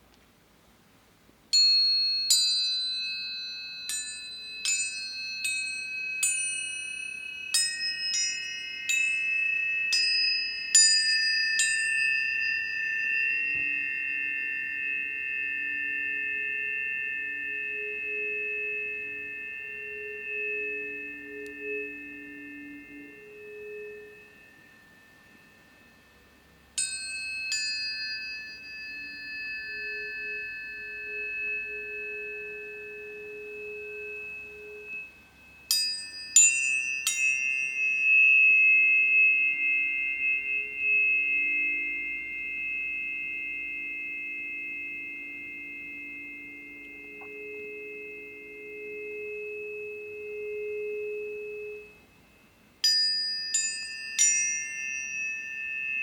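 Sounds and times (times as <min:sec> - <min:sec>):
tuning forks ringing: 0:01.5 - 0:56.0.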